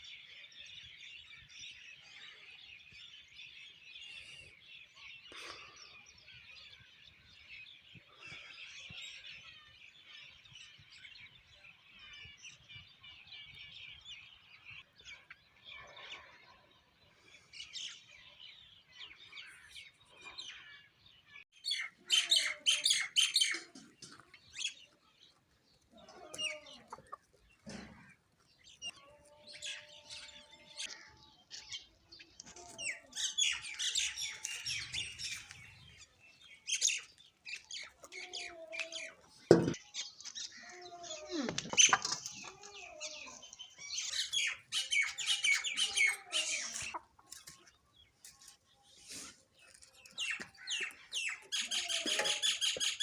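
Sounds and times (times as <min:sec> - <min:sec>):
sparrows chirping: 0:00.0 - 0:53.0.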